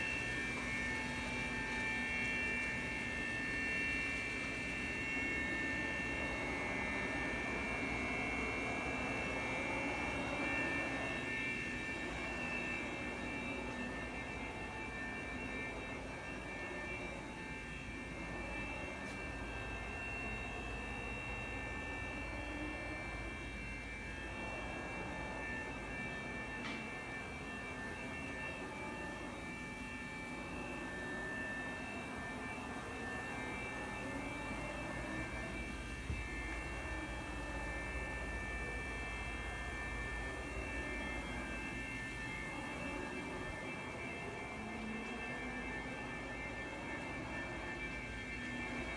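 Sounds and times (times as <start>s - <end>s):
machinery hum: 0.0s - 48.9s
spindle high whine: 0.0s - 48.9s.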